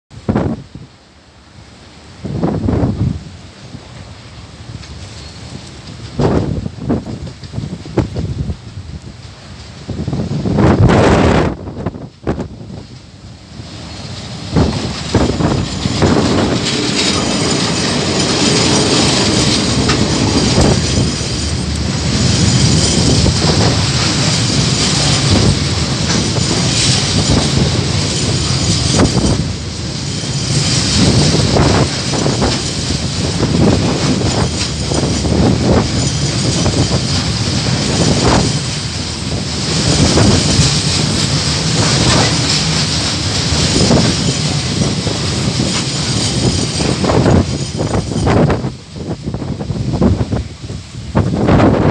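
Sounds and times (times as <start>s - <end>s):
diesel locomotive: 0.1s - 51.9s
train wheels clattering over rail joints: 3.7s - 51.9s.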